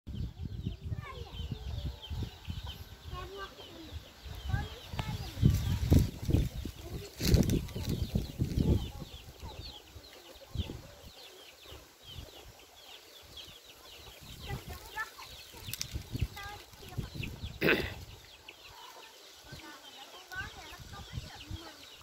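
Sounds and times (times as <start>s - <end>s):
birds chirping: 0.1s - 22.0s.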